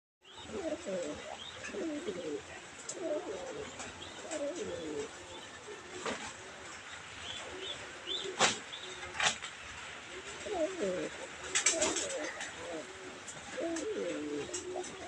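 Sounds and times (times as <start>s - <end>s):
pigeon cooing: 0.2s - 6.7s, 7.3s - 9.4s, 10.0s - 15.0s.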